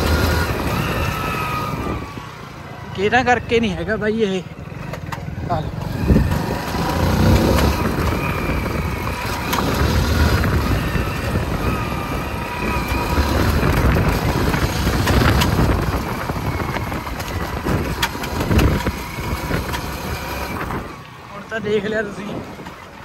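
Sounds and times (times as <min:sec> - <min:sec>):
wind buffeting microphone: 0:00.0 - 0:03.6, 0:04.6 - 0:23.0
motorcycle engine running: 0:00.0 - 0:23.0.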